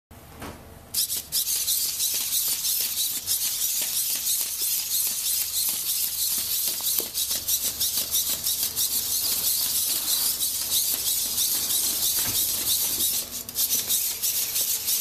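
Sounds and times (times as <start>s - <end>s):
robot servos whirring and clicking: 1.0s - 15.0s
plastic feet tapping on concrete: 1.7s - 13.9s.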